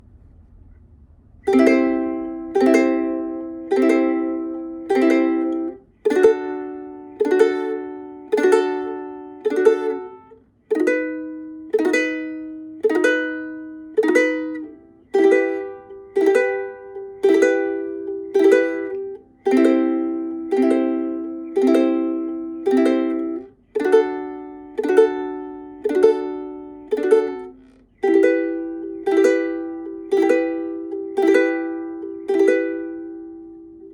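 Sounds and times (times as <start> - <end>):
ukulele chords strummed slowly: 1.4 - 33.9.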